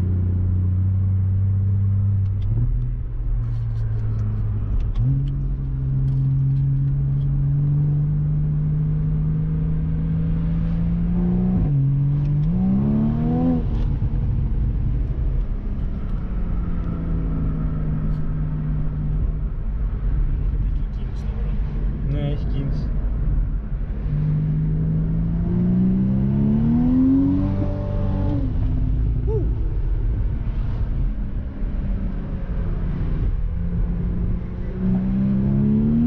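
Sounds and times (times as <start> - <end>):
car engine revving: 0.0 - 36.0
wind and road noise: 0.0 - 36.0.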